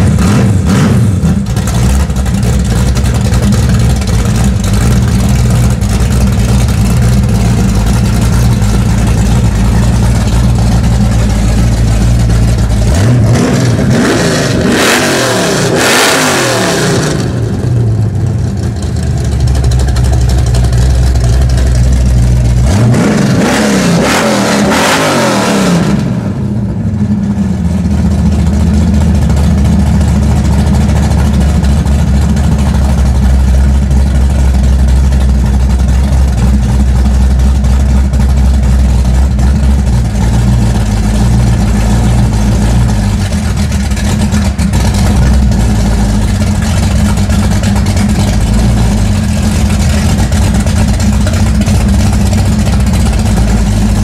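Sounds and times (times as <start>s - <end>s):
car engine lopey idle: 0.0s - 54.0s
car engine revving: 0.0s - 54.0s.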